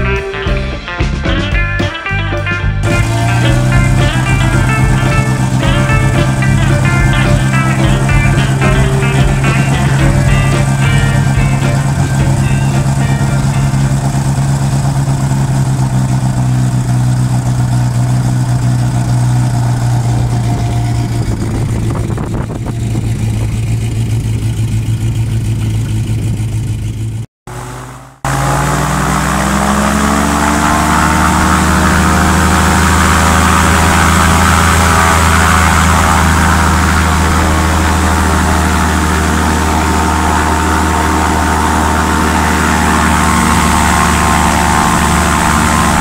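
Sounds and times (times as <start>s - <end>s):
airboat engine and propeller: 2.8s - 46.0s.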